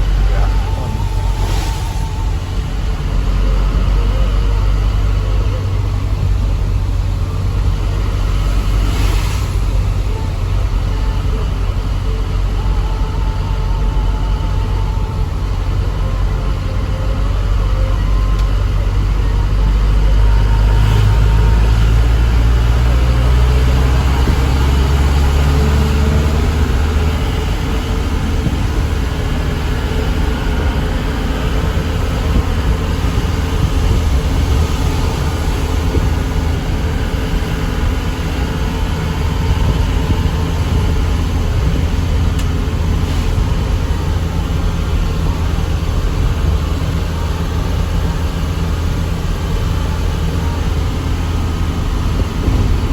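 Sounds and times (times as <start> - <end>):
road rumble: 0.0 - 52.9
truck diesel engine running: 0.0 - 52.9.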